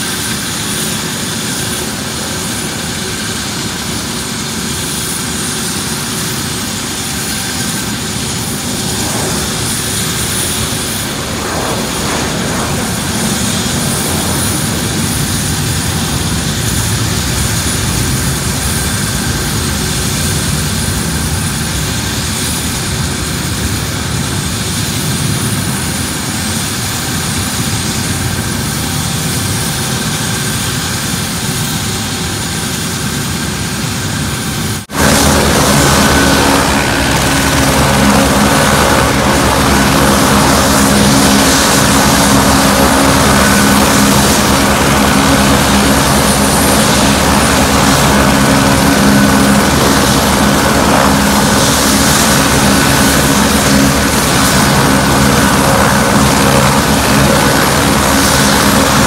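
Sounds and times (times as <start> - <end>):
helicopter idling: 0.0 - 59.0.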